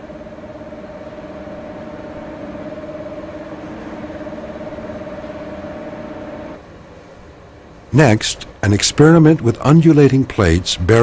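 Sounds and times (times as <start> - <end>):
electric fans blowing air: 0.0 - 11.0.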